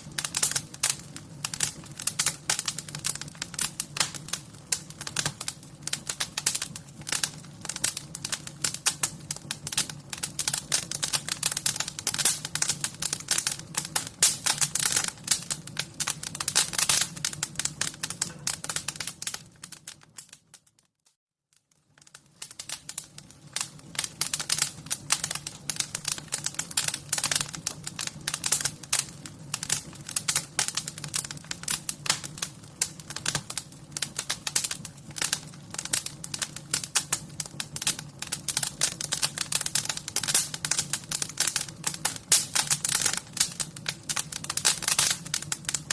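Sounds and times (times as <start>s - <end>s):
wood fire crackling: 0.0s - 20.9s, 21.5s - 45.9s.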